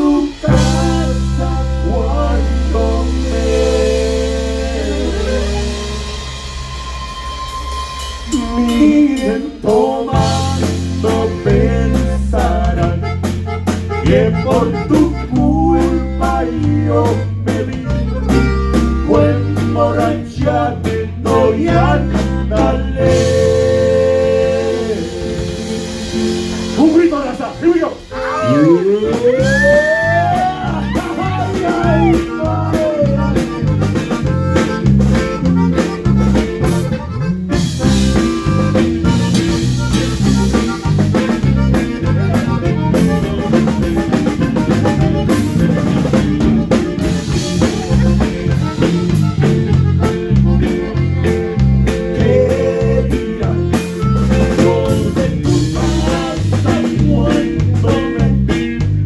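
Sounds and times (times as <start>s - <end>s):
drum kit groove: 0.0s - 59.0s
live band playing instrumental: 0.0s - 59.0s.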